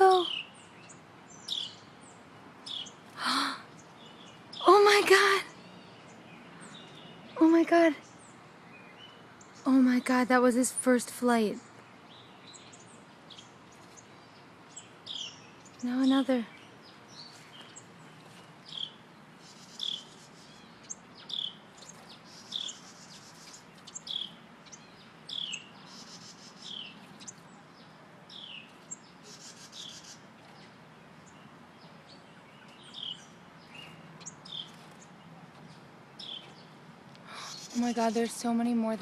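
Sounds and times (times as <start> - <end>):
small songbirds chirping: 0.0 - 39.0.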